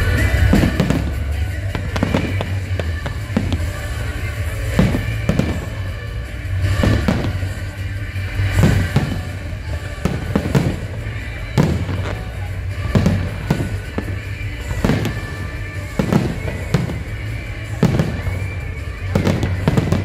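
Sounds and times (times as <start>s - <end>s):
fireworks shells bursting: 0.0s - 20.0s
music playing: 0.0s - 20.0s.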